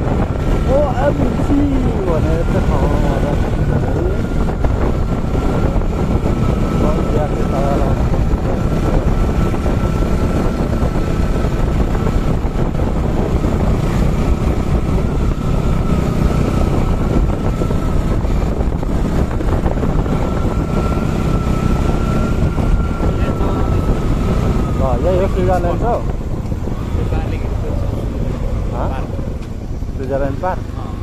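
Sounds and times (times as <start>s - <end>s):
motorcycle engine cruising: 0.0s - 31.0s
wind rush on microphone: 0.0s - 31.0s.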